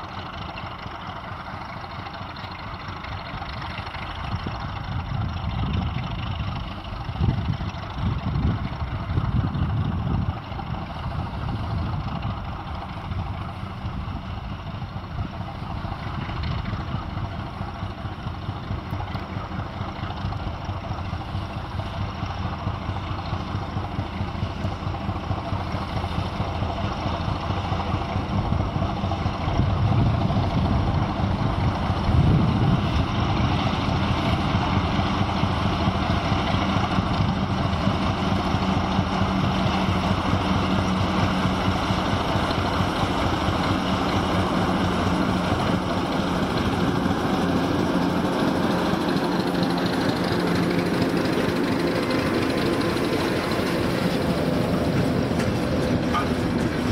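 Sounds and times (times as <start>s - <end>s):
diesel locomotive engine under load: 0.0s - 56.9s
wagons rolling past: 10.3s - 56.9s.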